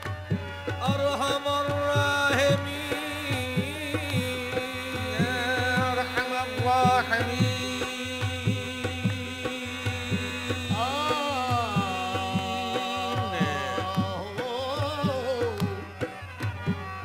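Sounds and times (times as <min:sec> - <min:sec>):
harmonium drone: 0:00.0 - 0:17.0
hand drum beat: 0:00.3 - 0:17.0
person singing ornamented runs: 0:00.7 - 0:16.2.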